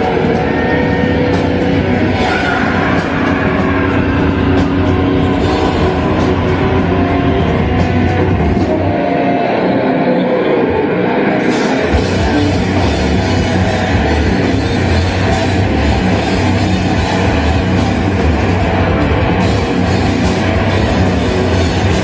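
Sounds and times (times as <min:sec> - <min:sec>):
nu metal band with distorted guitars: 0:00.0 - 0:22.0.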